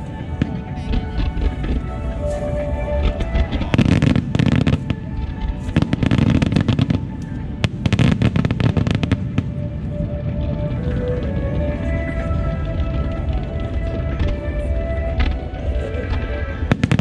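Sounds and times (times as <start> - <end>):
fireworks bursting and crackling: 0.0 - 17.0
music playing: 0.0 - 17.0.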